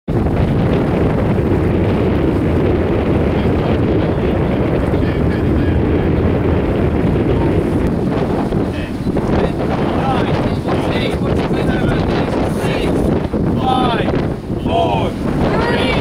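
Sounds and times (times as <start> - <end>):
sea water rushing around boat: 0.1 - 16.0
wind buffeting microphone: 0.1 - 16.0.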